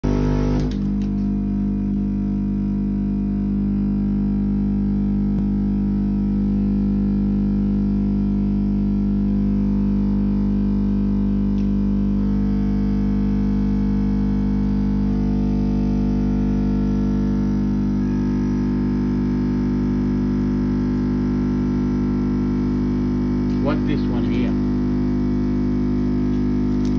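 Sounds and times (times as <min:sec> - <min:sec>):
machine electrical hum: 0:00.0 - 0:26.9.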